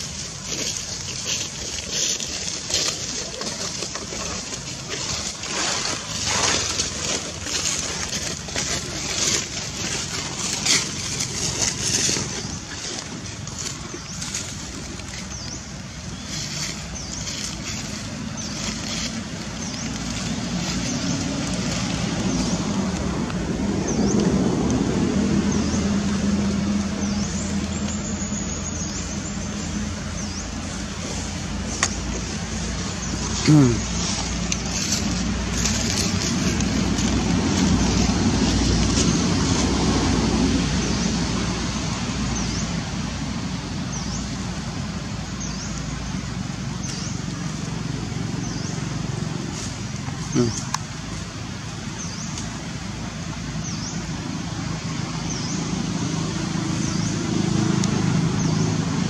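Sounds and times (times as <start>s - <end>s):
dry leaves rustling: 0.0s - 59.0s
motor vehicle rumble: 0.0s - 59.0s.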